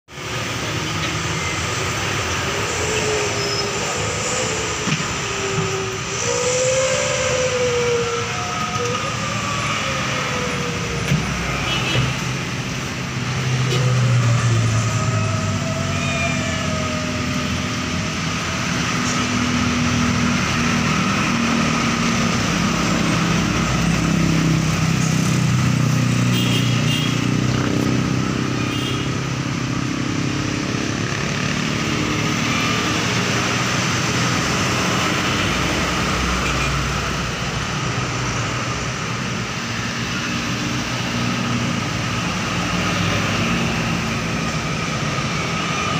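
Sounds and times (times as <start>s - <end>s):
road traffic passing: 0.1s - 45.9s.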